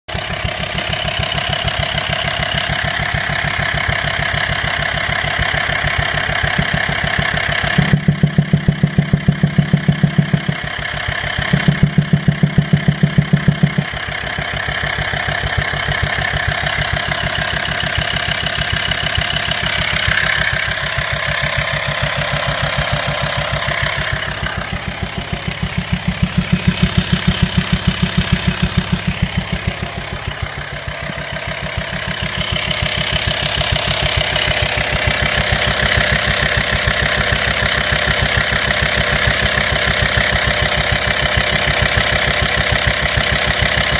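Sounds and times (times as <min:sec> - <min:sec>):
diesel engine idling with knock: 0:00.0 - 0:43.9.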